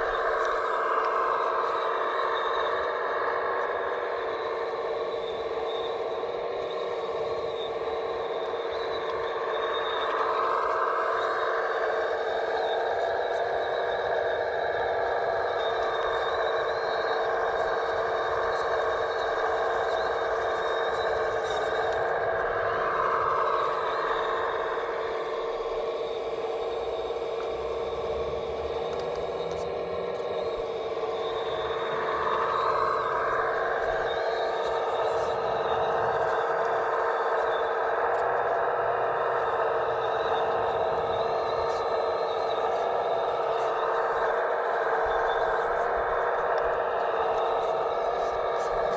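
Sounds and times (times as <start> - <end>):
toy machine motor whine: 0.0 - 48.9.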